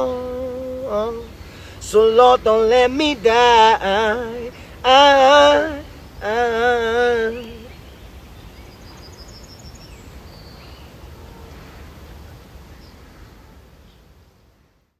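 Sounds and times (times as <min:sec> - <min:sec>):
low wind rumble: 0:00.0 - 0:14.8.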